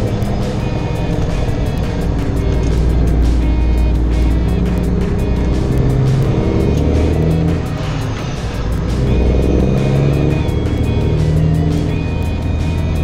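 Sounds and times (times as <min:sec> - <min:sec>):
background music: 0:00.0 - 0:13.0
truck engine running: 0:00.0 - 0:13.0.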